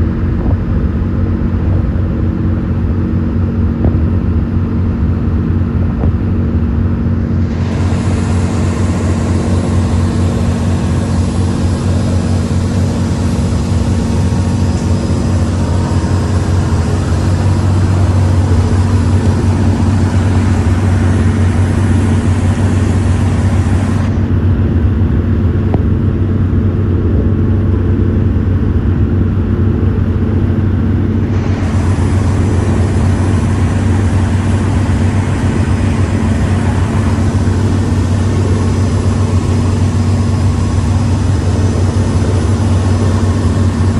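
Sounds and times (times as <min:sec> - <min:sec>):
travel noise: 0:00.0 - 0:43.9
vehicle engine droning: 0:00.0 - 0:43.9.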